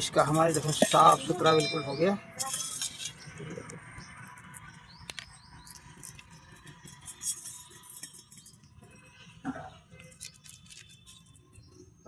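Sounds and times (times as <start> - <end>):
small metal parts clinking: 0.0 - 11.8.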